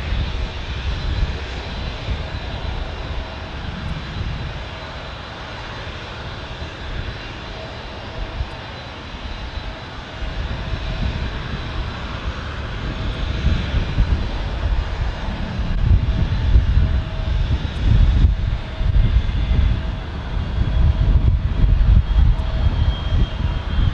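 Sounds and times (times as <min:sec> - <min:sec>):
jet engines roaring on takeoff: 0:00.0 - 0:23.9.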